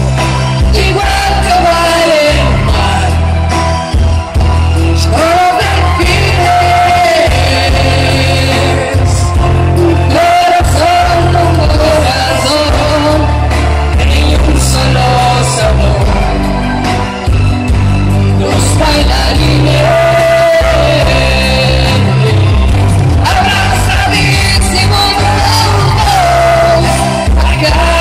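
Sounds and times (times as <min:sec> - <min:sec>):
bass and drum beat: 0:00.0 - 0:28.0
live pop song through speakers: 0:00.0 - 0:28.0.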